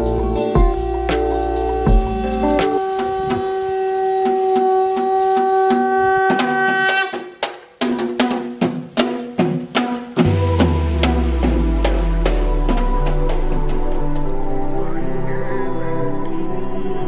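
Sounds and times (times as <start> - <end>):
sharp percussion hits: 0.0 - 5.0, 6.3 - 15.0
held tones over light percussion: 0.0 - 6.9, 7.8 - 17.0.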